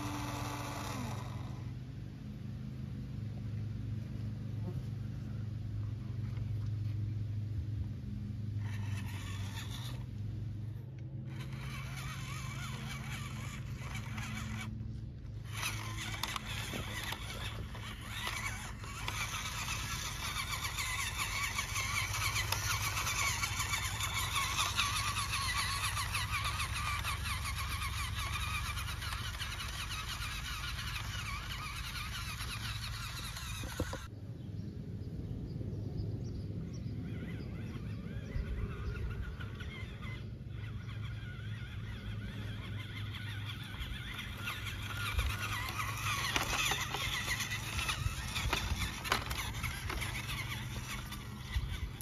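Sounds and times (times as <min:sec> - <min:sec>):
toy truck drivetrain hum: 0:00.0 - 0:34.1, 0:37.0 - 0:52.0
birds chirping: 0:00.0 - 0:52.0.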